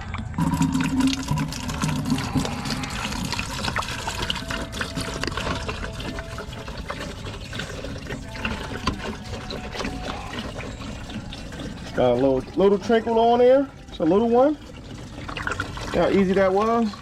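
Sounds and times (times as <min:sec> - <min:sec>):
liquid splashing into jug: 0:00.0 - 0:17.0.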